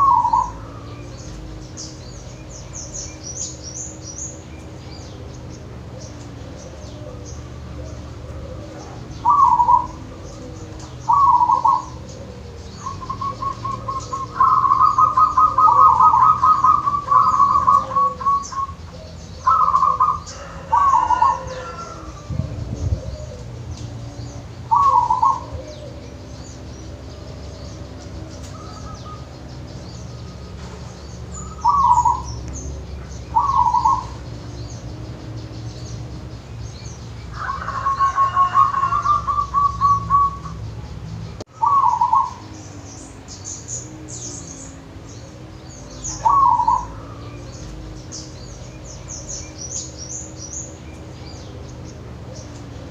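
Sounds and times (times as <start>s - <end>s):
dove cooing: 0.0s - 40.9s, 41.5s - 52.9s.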